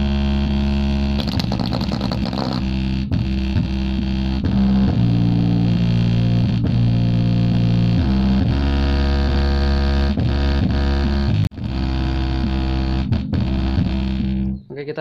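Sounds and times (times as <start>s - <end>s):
deep bass notes from subwoofer: 0.0s - 14.7s.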